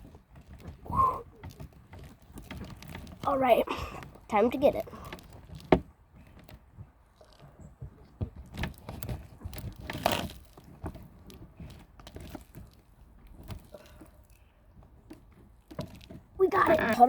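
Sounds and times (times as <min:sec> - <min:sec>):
rustling and crunching from handling: 0:00.0 - 0:17.0.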